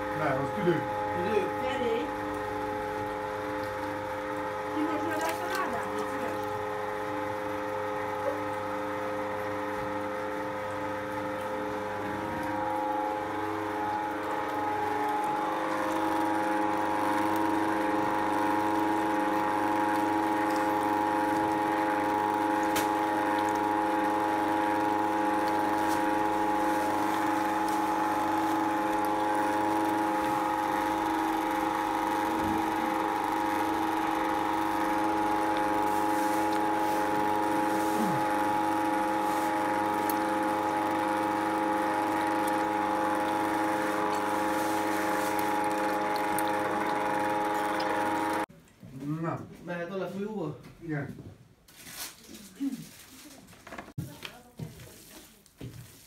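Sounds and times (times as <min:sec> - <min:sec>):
electric meat grinder running: 0:00.0 - 0:48.5.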